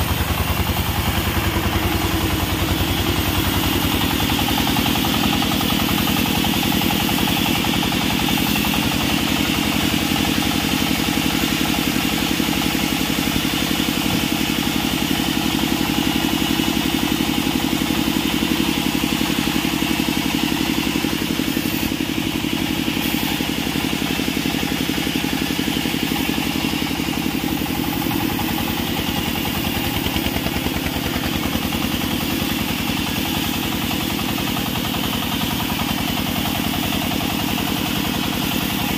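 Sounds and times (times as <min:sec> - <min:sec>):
sawmill running under load: 0:00.0 - 0:38.9.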